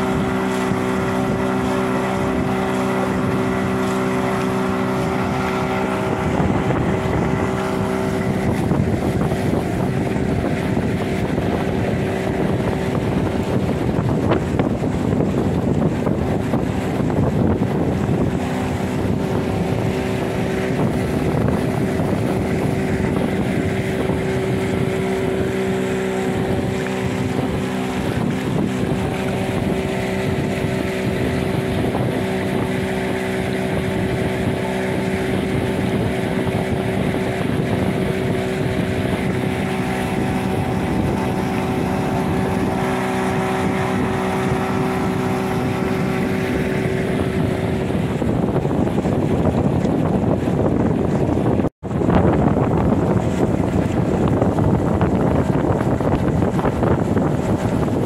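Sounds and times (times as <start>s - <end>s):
motorboat motor humming: 0.0s - 58.0s
wind noise on microphone: 0.0s - 58.0s.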